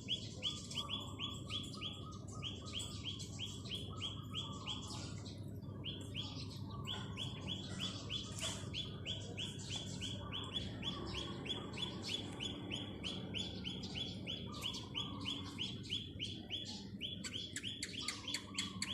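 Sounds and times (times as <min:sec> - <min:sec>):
birds calling: 0:00.0 - 0:18.9.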